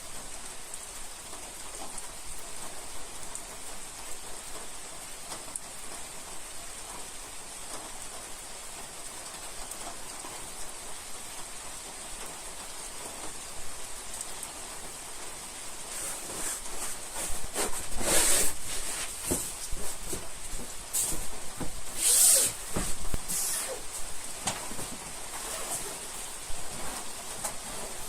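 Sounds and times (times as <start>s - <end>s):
rain pattering on surfaces: 0.0s - 28.0s.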